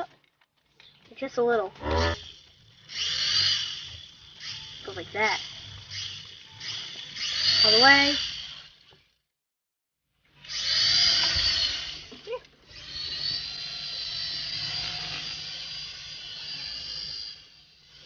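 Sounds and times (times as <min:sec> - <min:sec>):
toy helicopter rotor whining: 0:01.2 - 0:09.2, 0:10.3 - 0:18.0.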